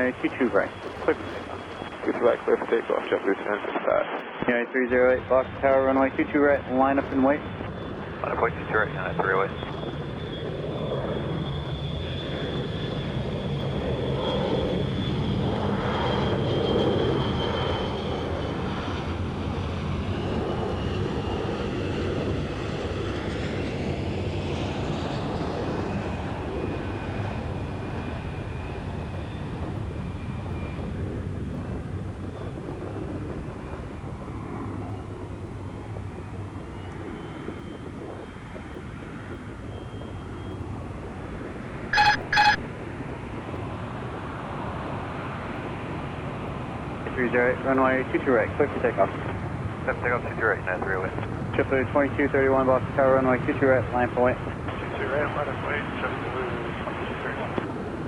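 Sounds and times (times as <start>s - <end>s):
jet engine rumble with whine: 0.0s - 58.0s.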